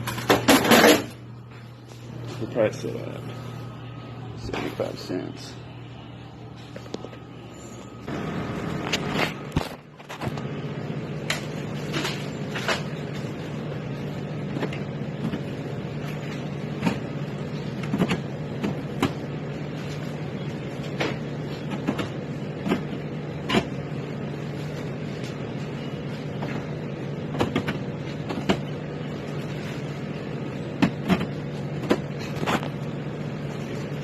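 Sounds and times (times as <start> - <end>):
vending machine humming: 0.0 - 34.0.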